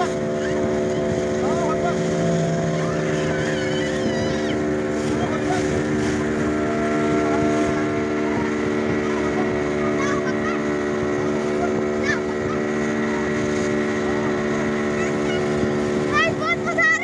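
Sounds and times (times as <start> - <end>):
motorboat engine running: 0.0 - 17.0
water rushing: 0.0 - 17.0.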